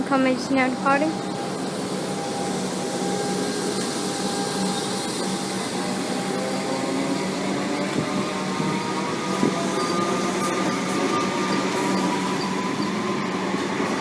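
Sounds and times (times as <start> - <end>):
electric train pulling out: 0.0 - 14.0.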